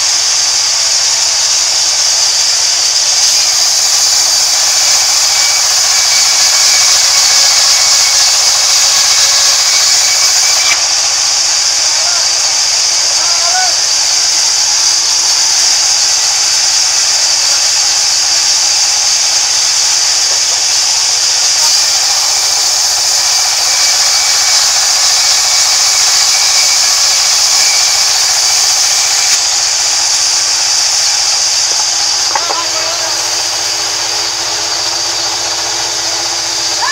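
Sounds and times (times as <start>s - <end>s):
band saw cutting timber: 0.0s - 36.9s.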